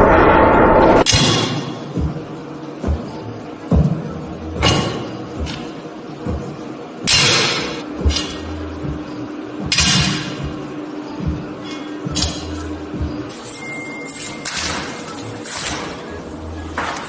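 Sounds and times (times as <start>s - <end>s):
faint background music: 1.0s - 17.0s.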